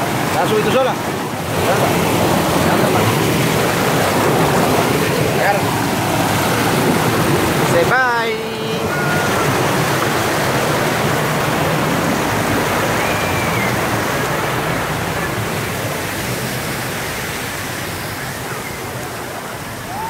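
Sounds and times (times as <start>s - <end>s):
water rushing down a channel: 0.0s - 20.0s.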